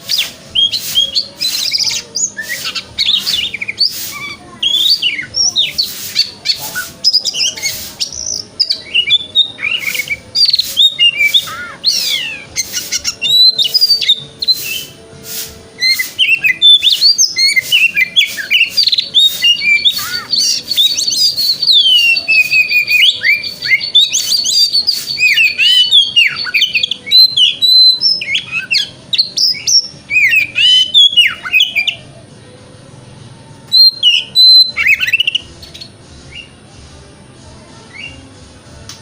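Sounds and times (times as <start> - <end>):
bird singing whistled song: 0.0 - 32.1, 33.7 - 36.6, 37.9 - 38.3.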